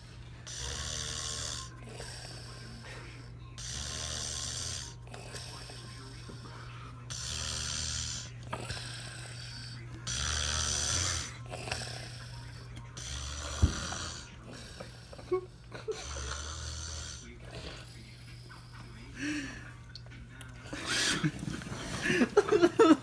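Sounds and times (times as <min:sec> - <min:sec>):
man snoring: 0:00.0 - 0:06.5, 0:07.1 - 0:19.4.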